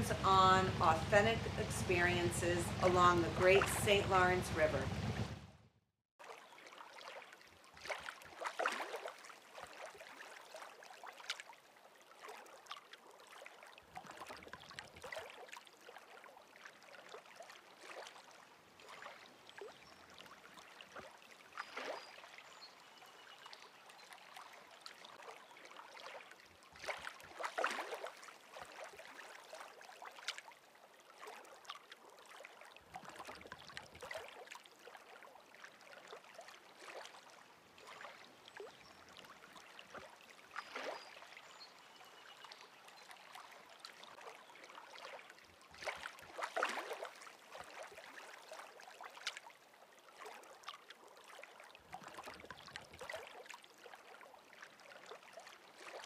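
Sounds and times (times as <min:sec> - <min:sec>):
river water lapping: 0:00.0 - 0:56.0.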